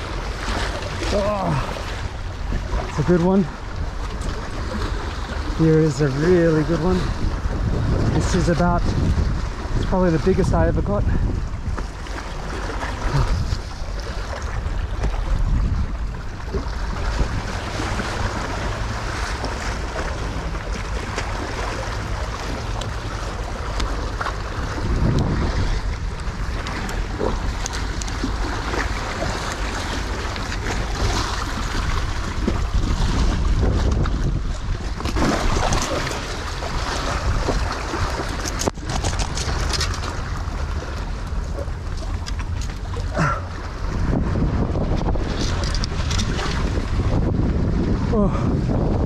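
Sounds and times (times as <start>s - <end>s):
waves splashing on boulders: 0.0s - 49.0s
wind rumbling on microphone: 0.0s - 49.0s.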